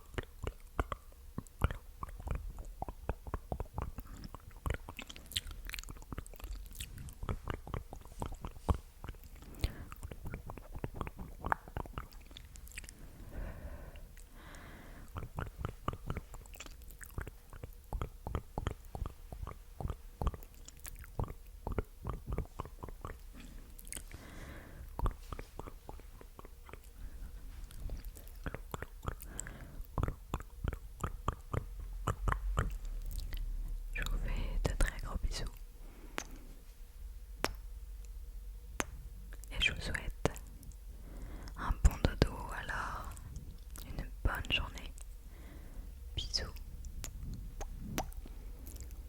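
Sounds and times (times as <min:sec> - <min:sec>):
soft breaths: 0:00.0 - 0:33.1, 0:34.0 - 0:37.1, 0:39.8 - 0:49.0
wet tongue and lip clicks: 0:00.0 - 0:36.5, 0:37.4 - 0:45.2, 0:46.2 - 0:49.0.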